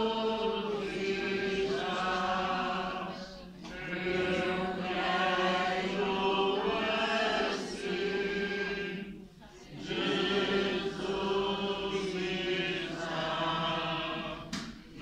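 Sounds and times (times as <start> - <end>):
group singing a slow hymn: 0.0 - 15.0.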